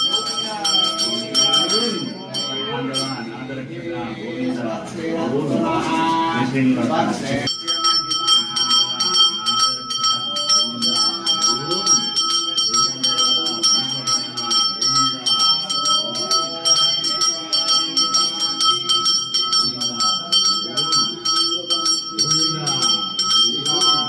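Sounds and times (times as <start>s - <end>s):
brass hand bell ringing rapidly: 0.0s - 3.3s, 7.5s - 24.0s
voices chanting: 0.0s - 24.0s.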